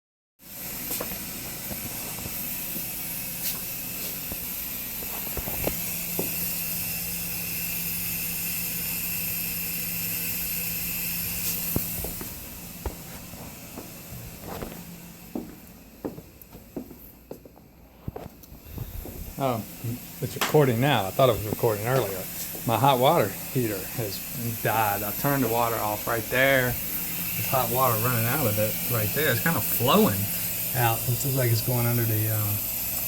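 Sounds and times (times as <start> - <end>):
hissing from water heater: 0.4 - 16.8, 18.2 - 33.0.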